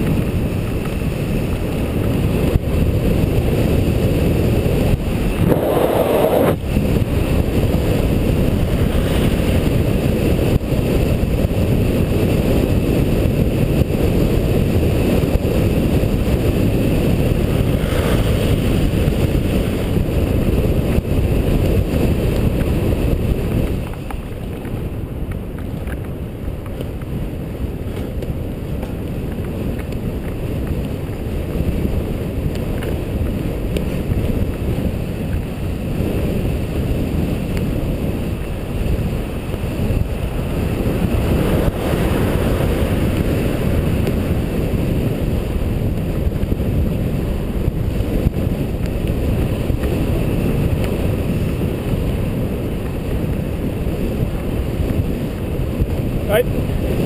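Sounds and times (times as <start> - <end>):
road rumble: 0.0 - 57.0
wind buffeting microphone: 0.0 - 57.0.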